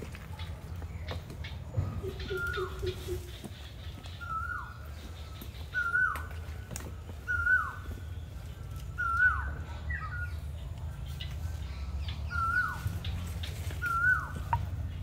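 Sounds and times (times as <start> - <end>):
bird calling: 0.4 - 10.6, 11.7 - 15.0.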